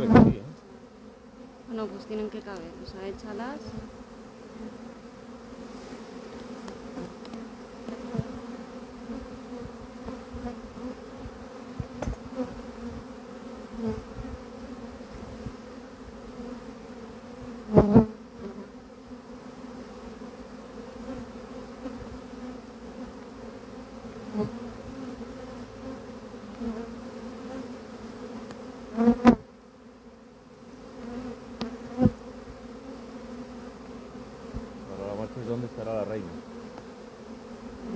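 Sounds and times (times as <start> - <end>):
honeybee swarm buzzing: 0.0 - 37.9.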